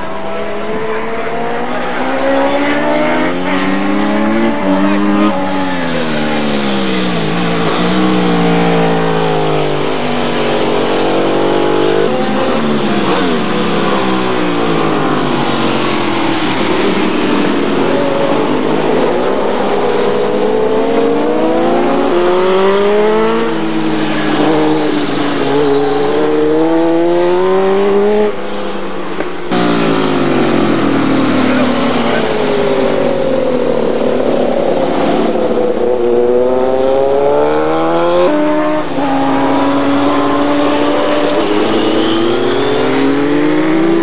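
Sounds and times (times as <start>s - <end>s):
motorcycle engines revving past: 0.0s - 44.0s.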